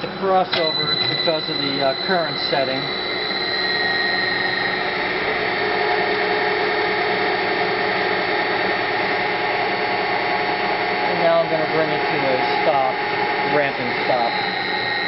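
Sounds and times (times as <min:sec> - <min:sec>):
electric motor whirring and whining: 0:00.0 - 0:15.0.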